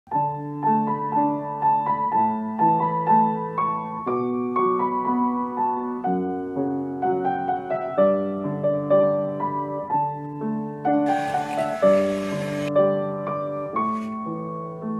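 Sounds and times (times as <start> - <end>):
piano music: 0.1 - 14.9.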